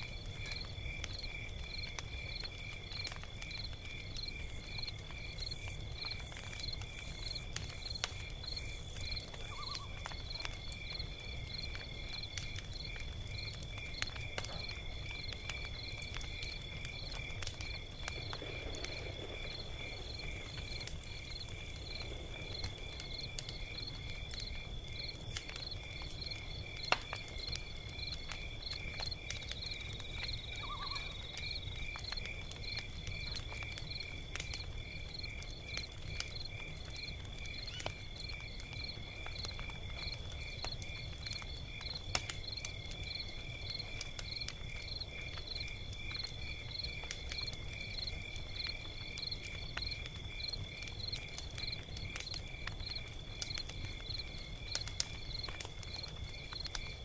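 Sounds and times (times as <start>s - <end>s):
crickets chirping: 0.0s - 57.0s
log fire crackling and popping: 0.0s - 57.0s.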